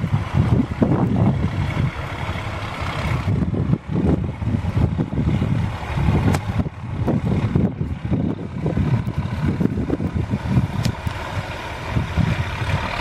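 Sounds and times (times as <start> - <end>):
heavy truck engine running: 0.0 - 13.0
wind rumbling on microphone: 0.0 - 13.0.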